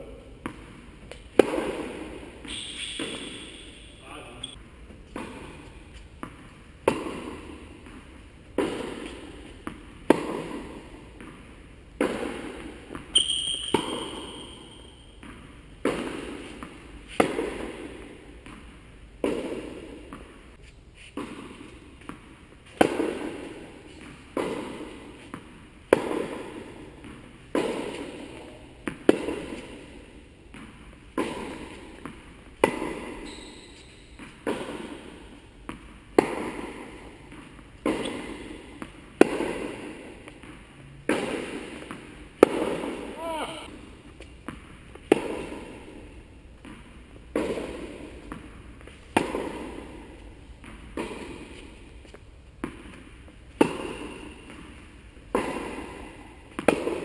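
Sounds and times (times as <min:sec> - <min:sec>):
tennis ball bouncing on court: 0:00.4 - 0:04.0, 0:05.1 - 0:20.4, 0:21.1 - 0:57.0
tennis ball struck by rackets: 0:00.4 - 0:04.0, 0:05.1 - 0:20.4, 0:21.2 - 0:33.3, 0:34.0 - 0:57.0.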